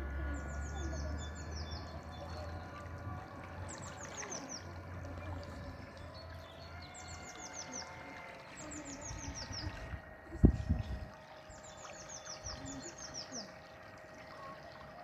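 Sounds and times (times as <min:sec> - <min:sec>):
faint low hum: 0:00.0 - 0:15.0
songbird singing: 0:00.0 - 0:15.0.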